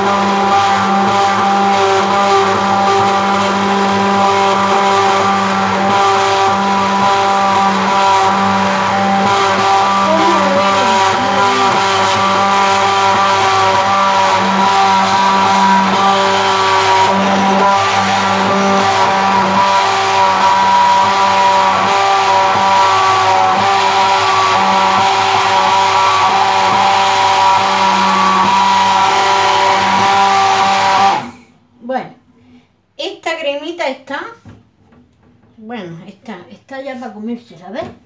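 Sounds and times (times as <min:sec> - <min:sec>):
immersion blender motor whine: 0:00.0 - 0:31.4.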